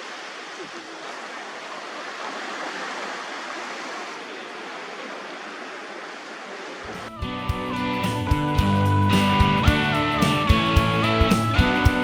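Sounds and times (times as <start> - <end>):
waves washing: 0.0 - 12.0.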